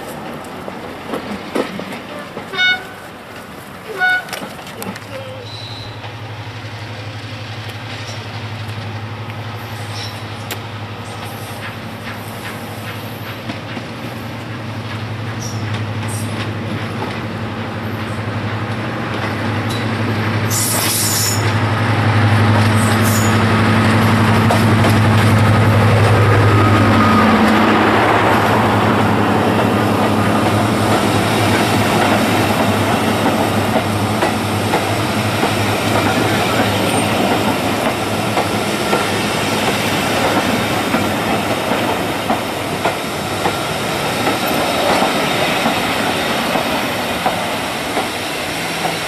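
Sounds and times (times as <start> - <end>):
diesel locomotive engine drone: 0.0 - 49.0
train wheel noise: 0.0 - 49.0.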